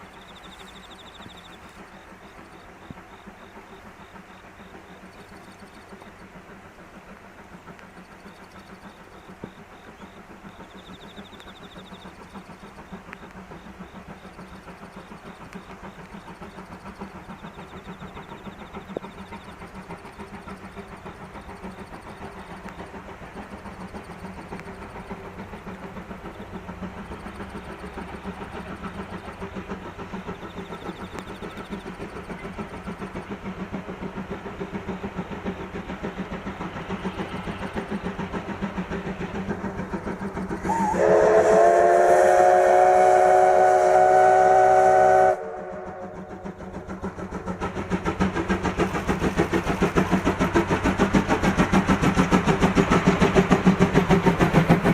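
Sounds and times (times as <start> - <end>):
steam locomotive chugging: 0.0 - 54.9.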